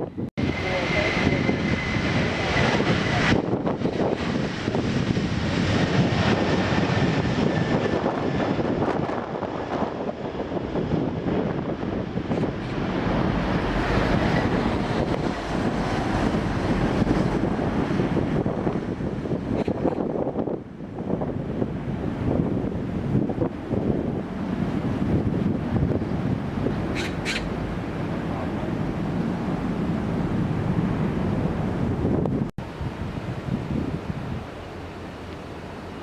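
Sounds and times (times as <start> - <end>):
aircraft engine noise: 0.0 - 36.0
wind on microphone: 0.0 - 36.0.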